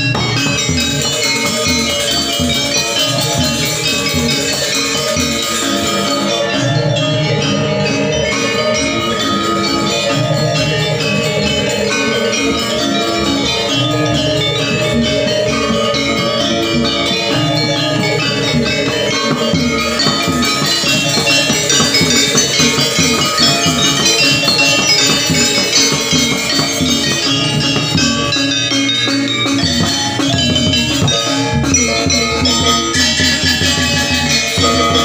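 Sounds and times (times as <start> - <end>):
drum strokes: 0.0 - 35.0
metallophones ringing: 0.0 - 35.0.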